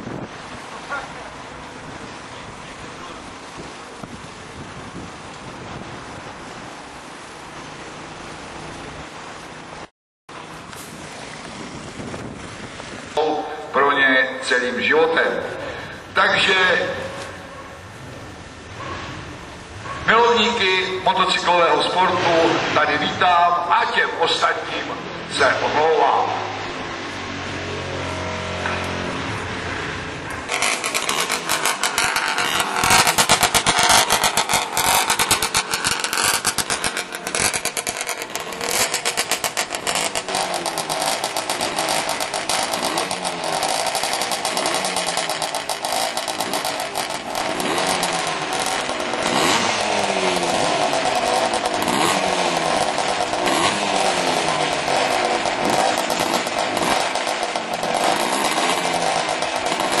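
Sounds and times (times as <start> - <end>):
racing motorcycle engines revving: 0.0 - 60.0.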